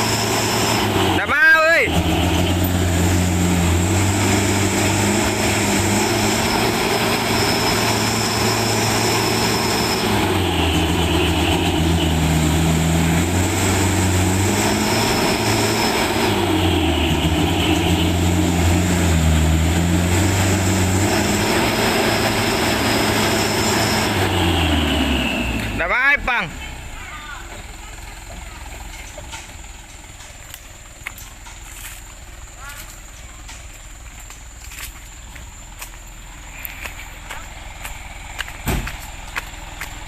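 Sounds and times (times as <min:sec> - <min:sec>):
diesel truck engine labouring: 0:00.0 - 0:40.0.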